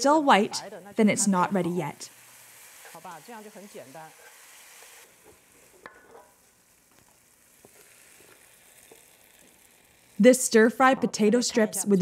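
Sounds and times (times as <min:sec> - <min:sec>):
potato strips sizzling in a wok: 0:00.0 - 0:12.0.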